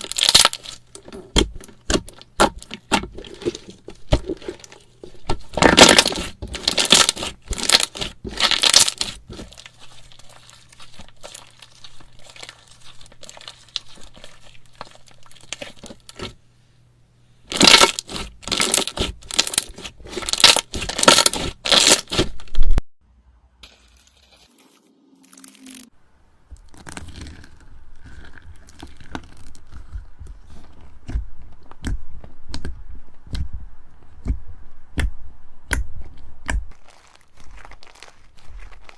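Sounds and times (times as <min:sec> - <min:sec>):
slime squelching and crackling: 0:00.0 - 0:16.4, 0:17.5 - 0:22.8, 0:26.5 - 0:38.9.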